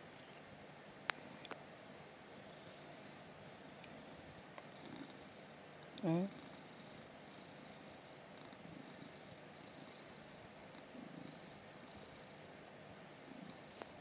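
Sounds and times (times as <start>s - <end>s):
cat purring faintly: 0.0s - 14.0s.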